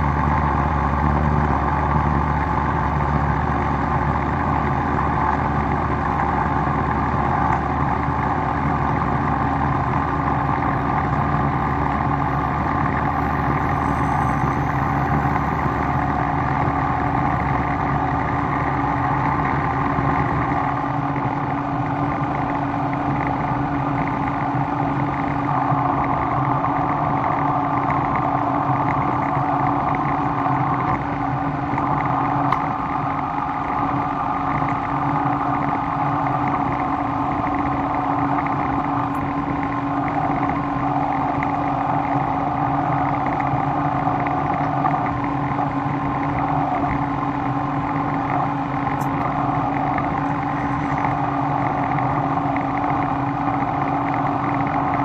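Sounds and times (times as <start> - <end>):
machinery motor hum: 0.0 - 55.0.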